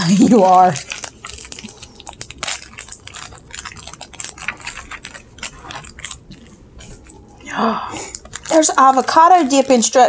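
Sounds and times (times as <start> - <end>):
snack wrappers rustling: 0.0 - 10.0.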